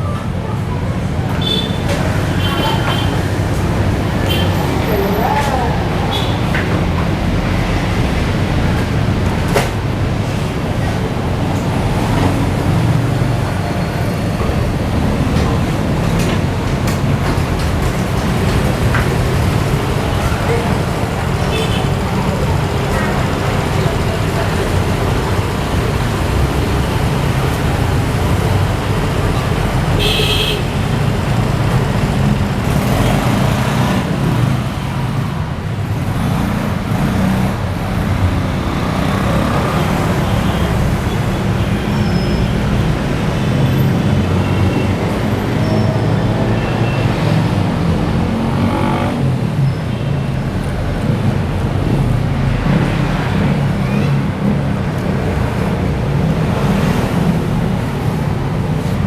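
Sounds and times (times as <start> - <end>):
street traffic noise: 0.0 - 59.0.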